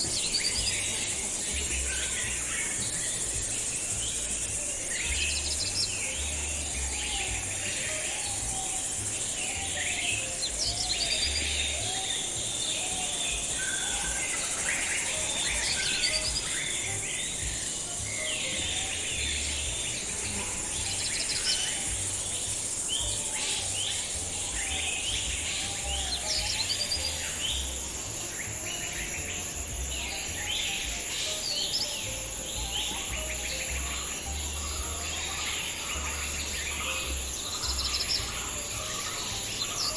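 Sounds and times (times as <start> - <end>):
birds chirping and singing: 0.0 - 39.9
insect drone: 0.0 - 39.9.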